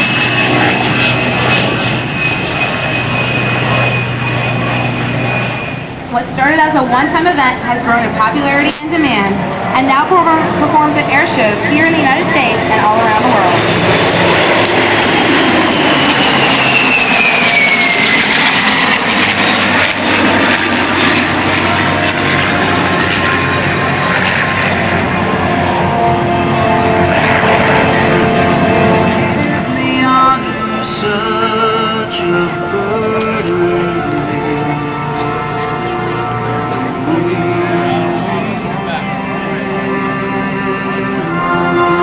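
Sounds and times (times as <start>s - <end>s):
aircraft engines whining: 0.0s - 42.0s.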